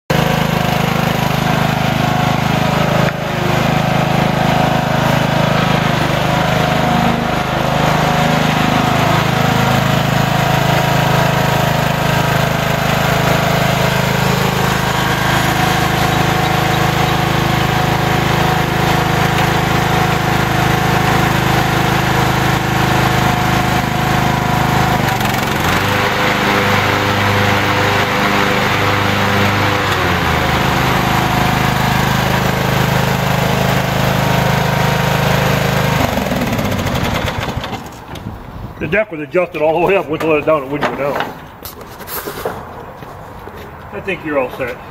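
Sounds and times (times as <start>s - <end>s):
riding lawn mower engine: 0.1s - 44.9s.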